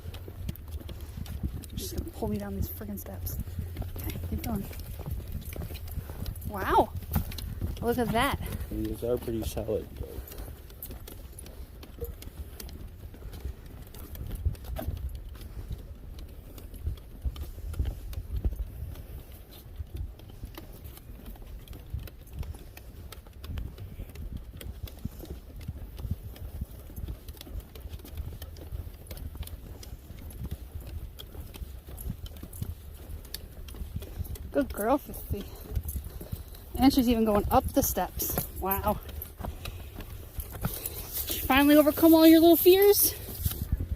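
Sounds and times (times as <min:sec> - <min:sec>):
footsteps on a footbridge: 0:00.0 - 0:43.9.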